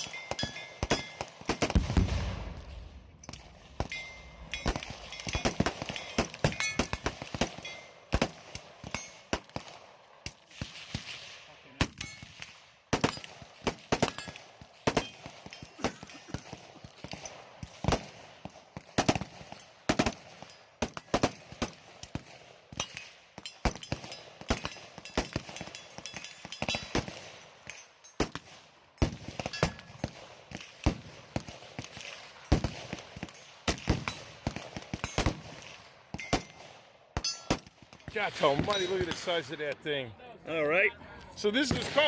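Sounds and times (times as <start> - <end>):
gunshots: 0.8 - 9.9, 10.5 - 23.1, 28.2 - 40.2, 41.3 - 42.0.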